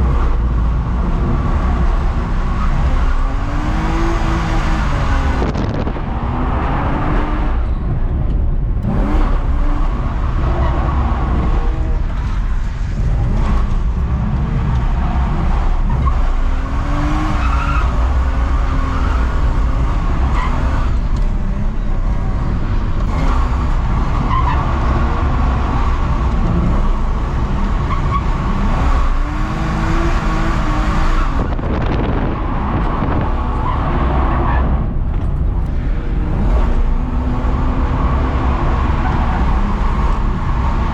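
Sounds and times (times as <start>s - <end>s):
tyres skidding and squealing: 0.0s - 8.0s, 8.9s - 40.9s
car engine revving: 0.0s - 40.9s.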